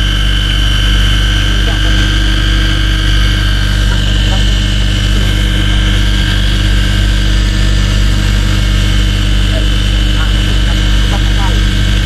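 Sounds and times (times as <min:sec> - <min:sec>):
boat engine droning: 0:00.0 - 0:12.0
high whine: 0:00.0 - 0:12.0.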